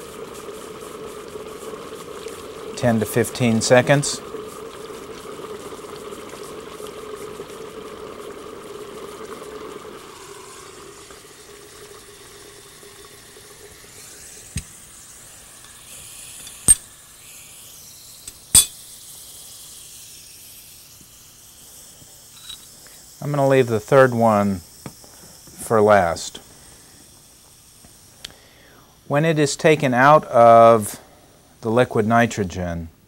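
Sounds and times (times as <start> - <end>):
liquid nitrogen boiling and bubbling: 0.0 - 32.8.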